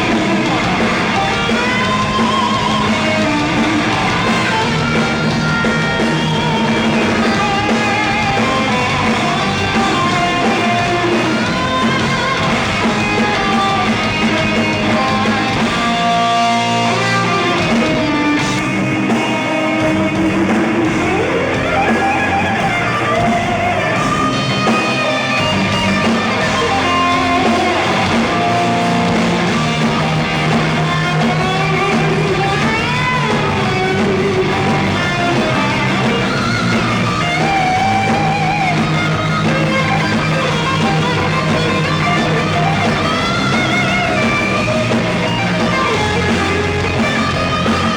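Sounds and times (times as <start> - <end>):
bass: 0.0 - 47.9
drum kit: 0.0 - 47.9
electric guitar melody: 0.0 - 47.9.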